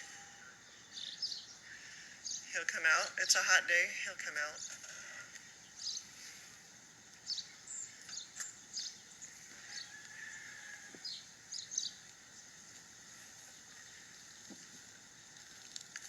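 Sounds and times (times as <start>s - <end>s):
birds chirping: 0.0s - 15.6s
faint background noise: 0.0s - 16.0s.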